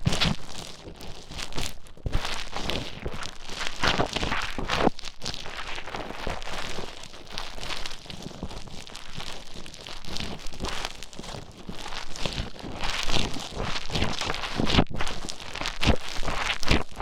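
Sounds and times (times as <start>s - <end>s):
foam crackling and rubbing: 0.0s - 17.0s.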